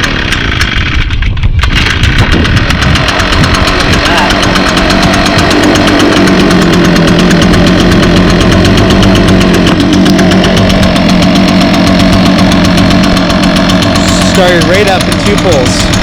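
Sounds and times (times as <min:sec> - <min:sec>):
leaf blower engine running: 0:00.0 - 0:16.0.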